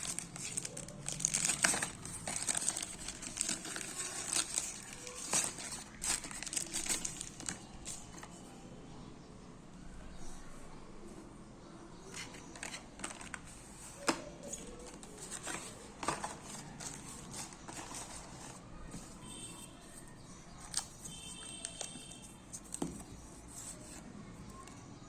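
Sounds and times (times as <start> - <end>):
phone packaging clicks and rustles: 0.0 - 8.4, 12.1 - 24.8.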